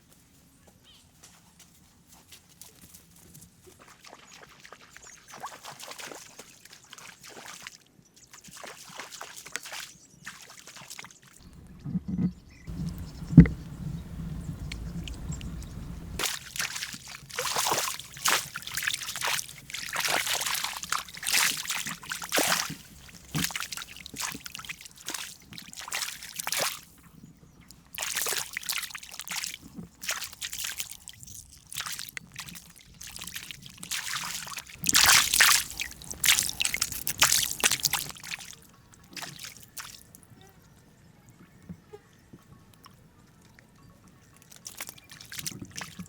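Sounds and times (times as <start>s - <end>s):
water sloshing and splashing: 3.7s - 27.0s, 27.7s - 40.3s, 44.3s - 46.0s.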